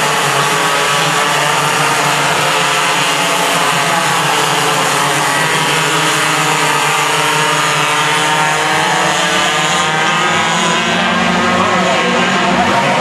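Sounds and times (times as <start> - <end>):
racing kart engines: 0.0 - 13.0.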